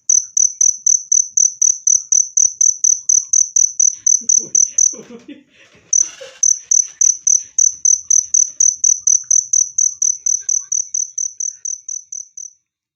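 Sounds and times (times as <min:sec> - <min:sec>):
cricket chirping: 0:00.0 - 0:05.1, 0:05.9 - 0:12.7.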